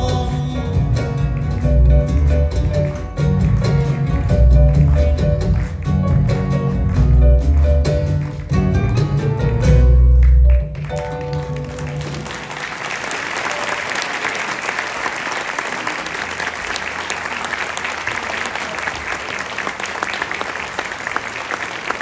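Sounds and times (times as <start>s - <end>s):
audience clapping: 1.0s - 22.0s.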